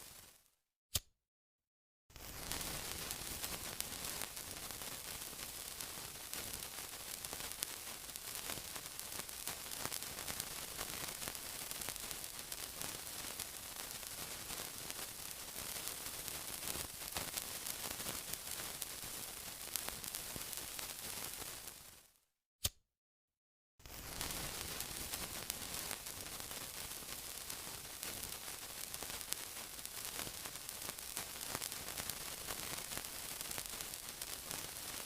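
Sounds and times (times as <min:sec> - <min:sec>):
sizzling with crackles: 0:00.0 - 0:00.5, 0:02.1 - 0:22.2, 0:23.8 - 0:35.0.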